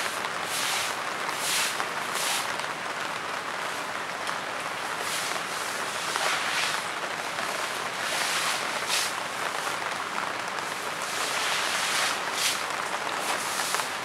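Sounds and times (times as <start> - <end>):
rain falling through foliage: 0.0 - 14.0.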